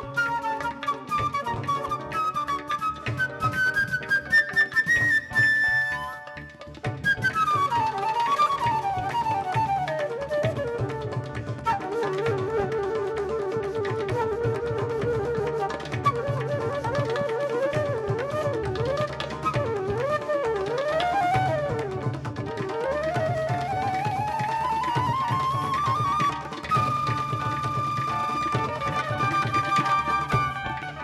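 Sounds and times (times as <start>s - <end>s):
hand drum accompaniment: 0.0s - 31.0s
wind instrument melody: 0.0s - 31.0s.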